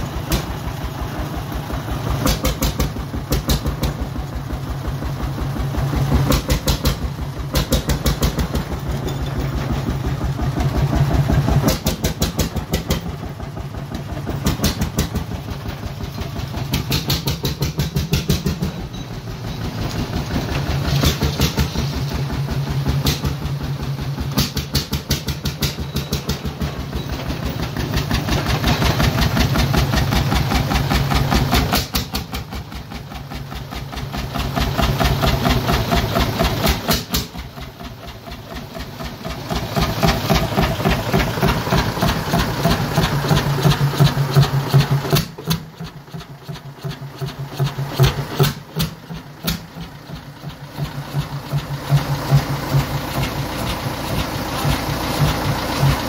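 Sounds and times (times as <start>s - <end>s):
diesel engine exhaust beat: 0.0s - 56.0s.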